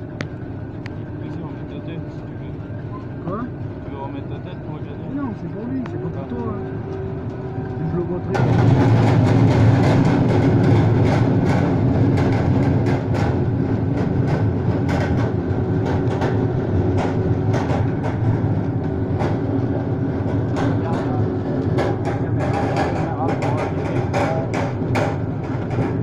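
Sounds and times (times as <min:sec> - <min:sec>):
harvester machine drone: 0:00.0 - 0:26.0.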